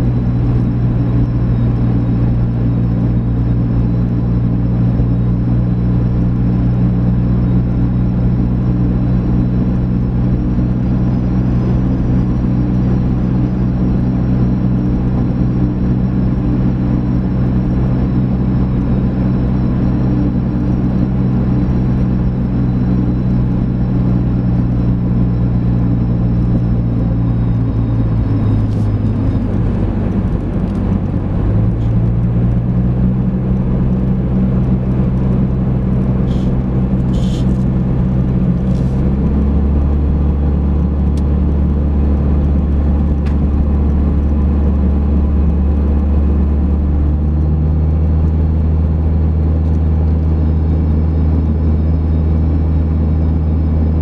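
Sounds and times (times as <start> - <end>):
car engine and tyre hum: 0.0 - 54.0.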